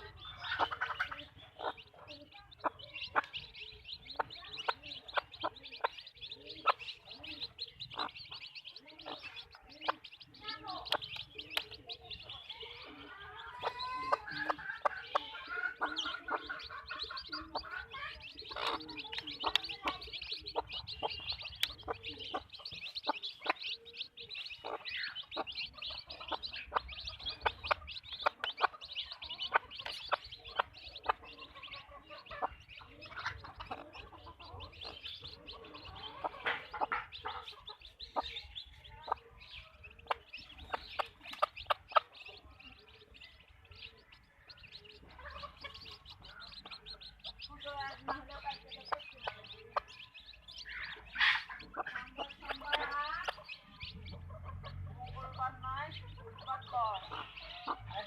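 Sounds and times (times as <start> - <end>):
hens clucking: 0.0 - 58.0.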